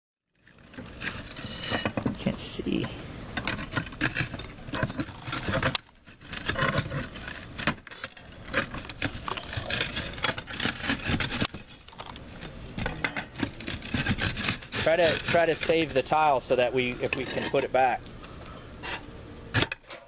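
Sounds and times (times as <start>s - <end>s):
roof tiles scraping and clacking: 0.4s - 18.0s.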